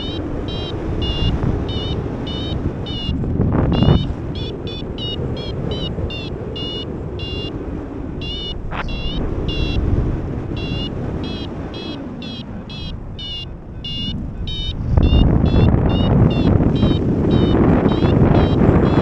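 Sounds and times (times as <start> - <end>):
short high beeps: 0.0 - 3.2, 3.8 - 7.5, 8.2 - 9.8, 10.6 - 19.0
wind on microphone: 0.0 - 19.0.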